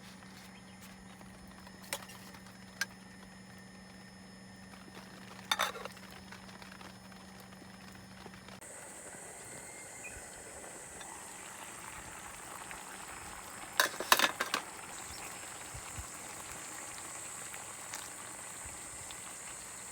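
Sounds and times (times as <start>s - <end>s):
pot bubbling and sizzling: 0.0s - 19.9s.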